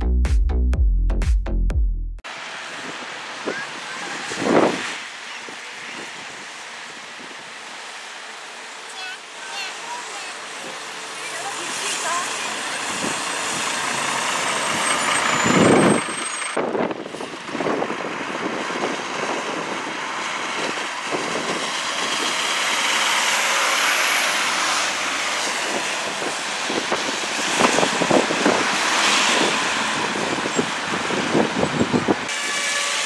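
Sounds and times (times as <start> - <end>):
passing traffic: 2.2 - 33.0
heavy truck engine: 2.3 - 33.0.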